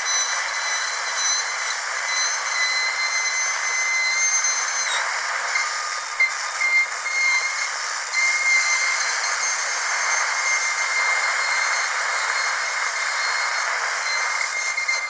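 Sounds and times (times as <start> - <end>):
dental drill whining: 0.0 - 15.0.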